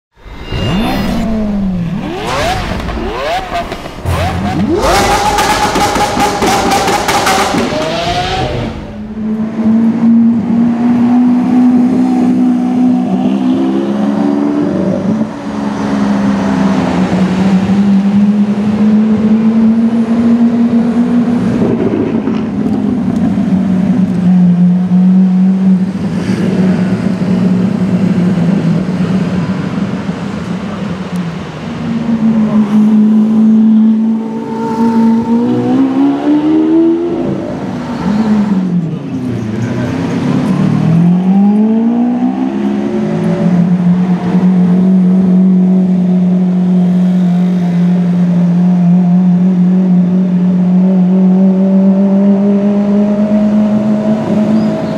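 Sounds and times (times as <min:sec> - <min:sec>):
car engine droning: 0:00.1 - 0:54.9.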